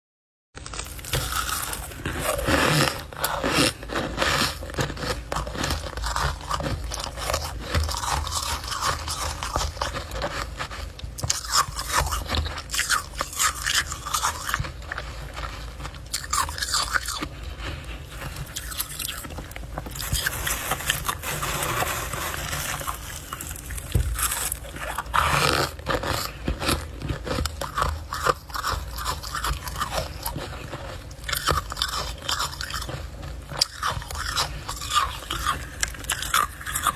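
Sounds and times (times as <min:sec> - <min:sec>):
frost being chewed with crunches: 0:00.6 - 0:36.9.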